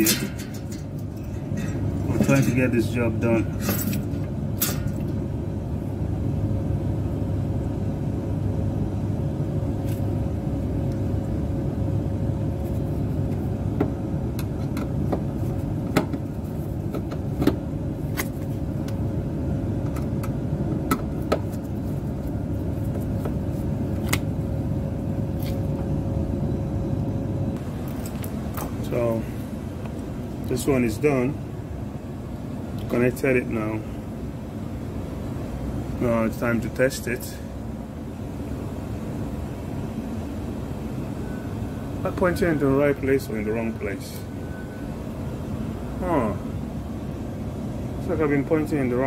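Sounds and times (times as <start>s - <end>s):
faint steady hum: 0.0s - 49.0s
steady low rumble: 0.0s - 49.0s.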